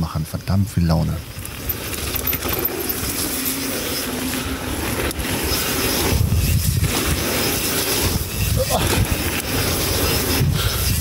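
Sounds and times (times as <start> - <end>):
bike tyres on dirt: 0.0 - 11.0
wind rumbling on microphone: 1.1 - 11.0.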